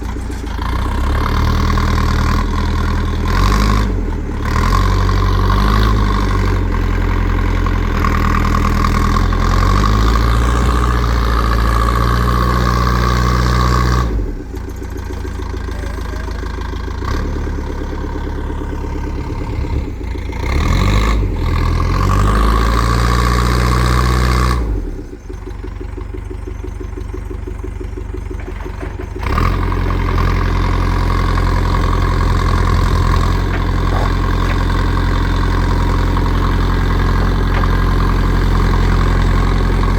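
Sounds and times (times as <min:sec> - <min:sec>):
backhoe diesel engine working: 0:00.0 - 0:39.9
engine whine: 0:00.0 - 0:39.9.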